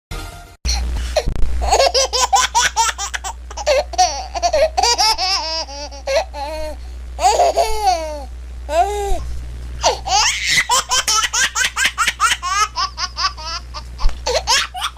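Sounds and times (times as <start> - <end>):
steady low hum: 0.7 - 14.9
baby laughing and squealing: 1.6 - 8.8, 9.8 - 14.9.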